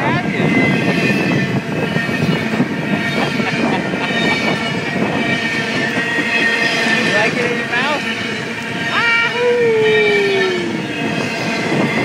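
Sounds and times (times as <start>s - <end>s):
high steady squeal: 0.0s - 12.0s
train wheels rumbling on rails: 0.0s - 12.0s.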